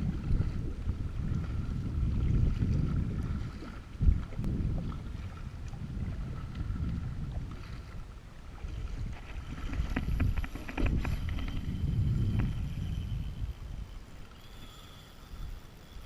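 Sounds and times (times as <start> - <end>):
wind buffeting microphone: 0.0 - 14.3
water sloshing: 1.3 - 14.7.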